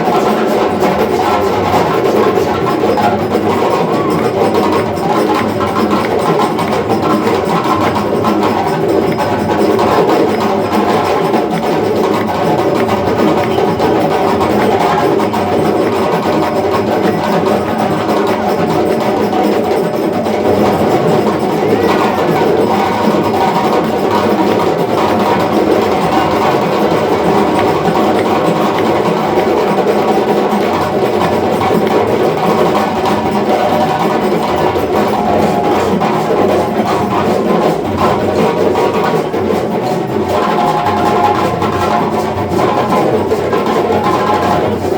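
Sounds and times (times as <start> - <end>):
hand-drum ensemble rhythm: 0.0 - 44.9.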